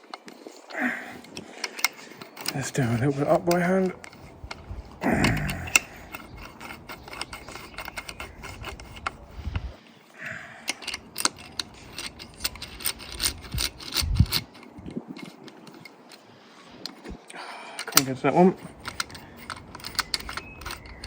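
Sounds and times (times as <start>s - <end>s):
ratchet clicking: 1.2s - 9.7s, 10.7s - 15.9s, 17.8s - 21.0s.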